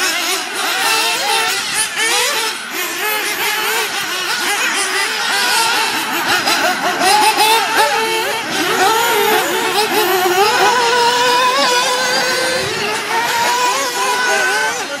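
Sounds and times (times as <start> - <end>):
rc buggy engines whining: 0.0 - 15.0.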